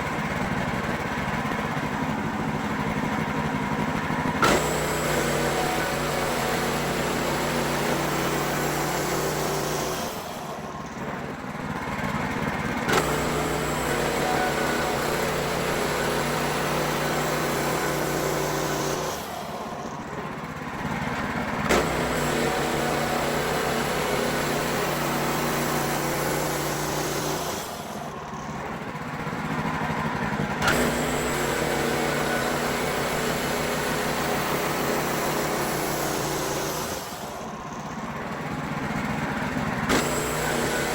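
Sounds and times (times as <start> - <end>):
band sawmill cutting boards: 0.0 - 40.9.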